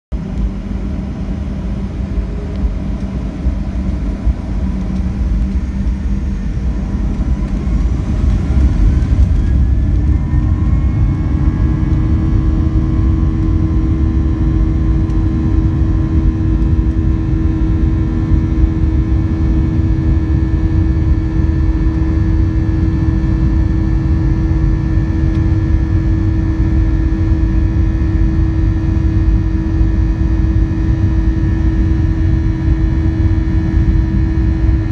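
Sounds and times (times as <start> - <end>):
jet engine rumble from cabin: 0.1 - 34.9
engine whine rising in pitch: 0.2 - 34.9.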